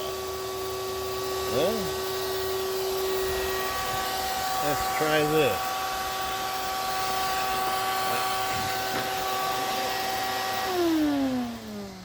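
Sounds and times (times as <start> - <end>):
shop vac whining: 0.0 - 12.0.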